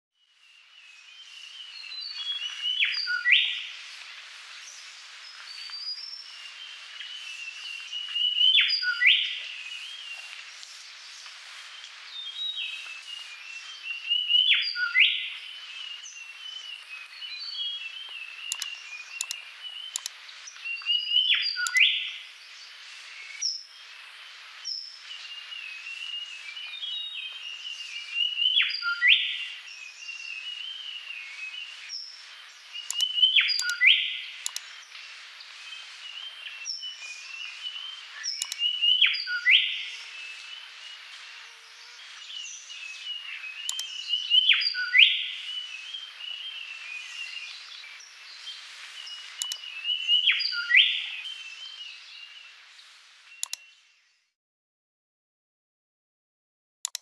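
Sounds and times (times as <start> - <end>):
birds chirping and twittering: 0.2 - 54.3.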